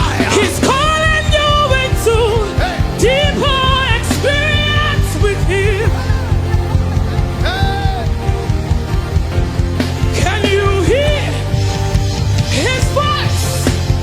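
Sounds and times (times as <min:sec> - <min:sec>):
band with bass and drums: 0:00.0 - 0:14.0.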